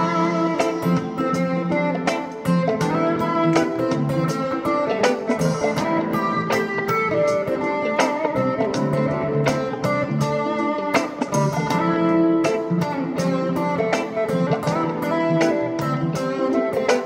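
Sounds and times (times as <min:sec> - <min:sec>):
electric guitar melody: 0:00.0 - 0:17.0.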